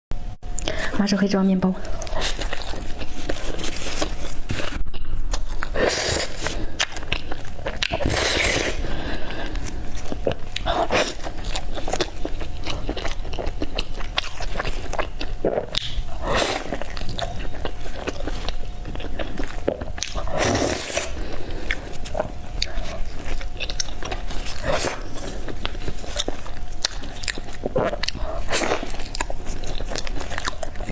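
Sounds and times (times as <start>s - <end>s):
wet chewing and bites: 1.8s - 30.9s.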